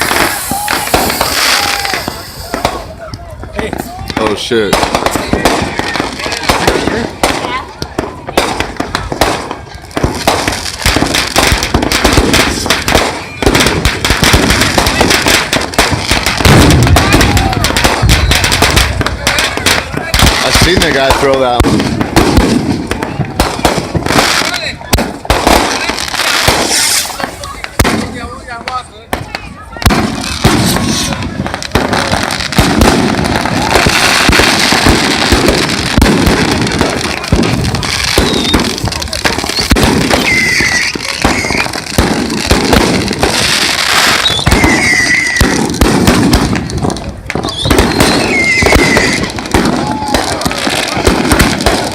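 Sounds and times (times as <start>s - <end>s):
firecrackers cracking: 0.0s - 51.9s.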